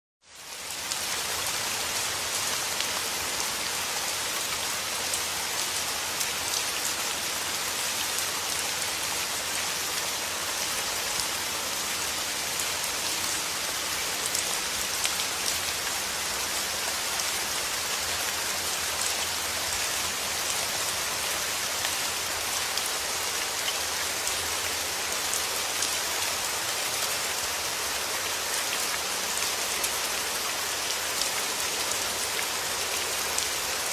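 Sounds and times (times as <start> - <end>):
rain pattering: 0.3 - 33.9.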